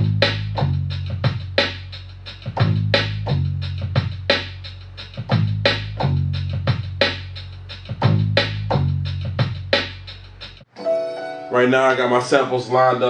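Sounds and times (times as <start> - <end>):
deep bass line: 0.0 - 10.6.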